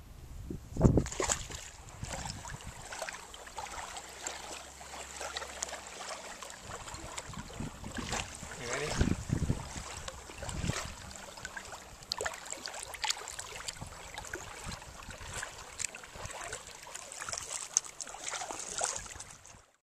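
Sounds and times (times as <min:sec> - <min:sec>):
water lapping and trickling: 0:00.8 - 0:19.8
water splashing: 0:00.8 - 0:19.8.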